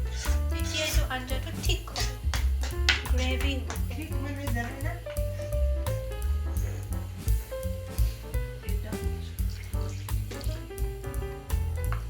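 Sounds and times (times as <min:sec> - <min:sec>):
music with bass and drum beat: 0:00.0 - 0:12.0.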